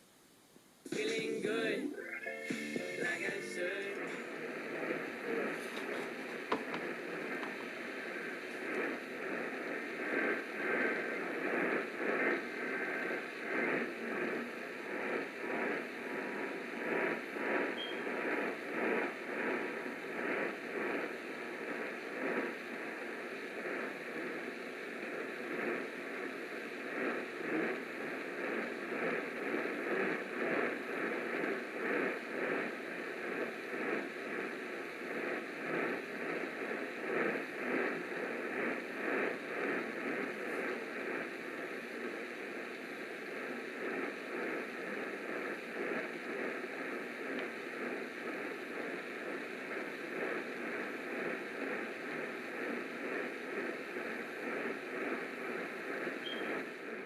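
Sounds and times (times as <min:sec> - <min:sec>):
radio static and hiss: 0:00.8 - 0:57.0.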